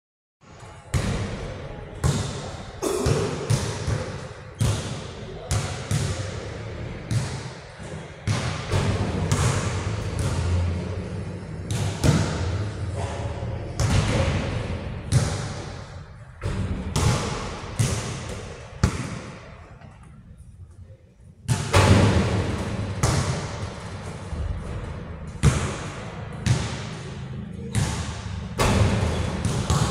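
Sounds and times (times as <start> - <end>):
basketballs bouncing in a hall: 0.4 - 20.4, 21.4 - 29.9.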